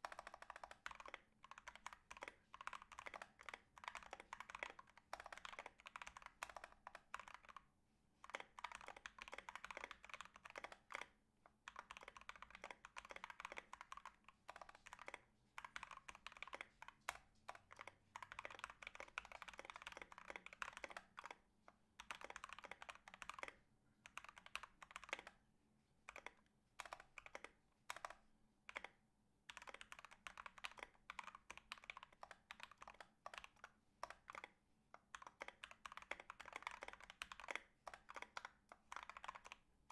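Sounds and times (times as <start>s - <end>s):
mechanical keyboard typing: 0.0s - 7.6s, 8.2s - 21.4s, 22.0s - 25.4s, 26.1s - 39.7s.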